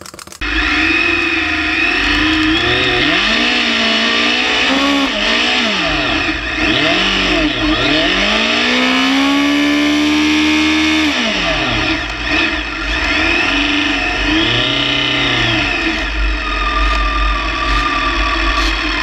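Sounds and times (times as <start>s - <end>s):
motorcycle engine revving hard: 0.4s - 19.0s.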